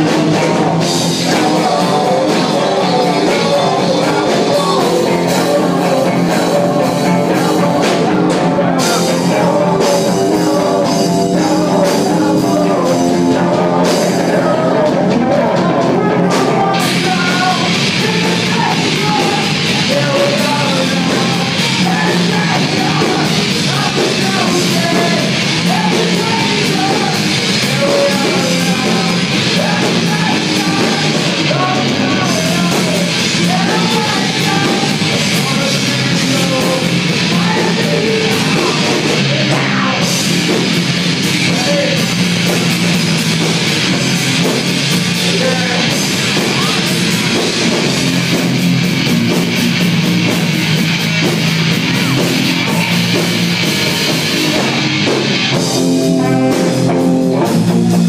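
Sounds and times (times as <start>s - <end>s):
person singing and shouting: 0.0s - 42.8s, 44.4s - 48.4s, 50.2s - 58.0s
bass guitar: 0.0s - 58.0s
drum kit: 0.0s - 58.0s
electric guitars: 0.0s - 58.0s.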